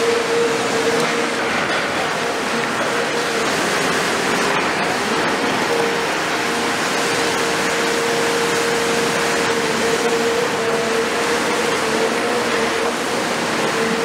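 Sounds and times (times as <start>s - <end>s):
excavator diesel engine running: 0.0s - 14.0s
steady whine: 0.0s - 14.0s.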